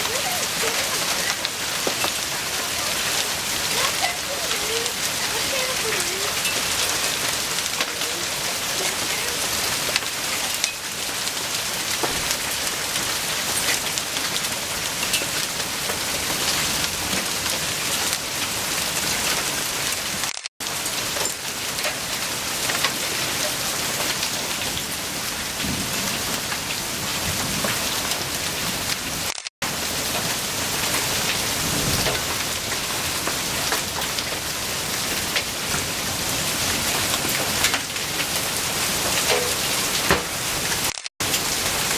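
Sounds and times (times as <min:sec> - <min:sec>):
hail and rain pelting: 0:00.0 - 0:41.9
hailstones ticking: 0:00.0 - 0:41.9.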